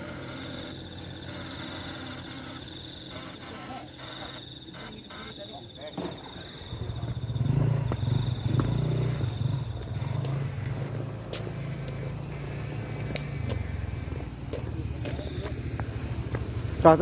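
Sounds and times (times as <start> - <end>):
insect trilling: 0.0 - 17.0
small engine humming: 0.0 - 17.0.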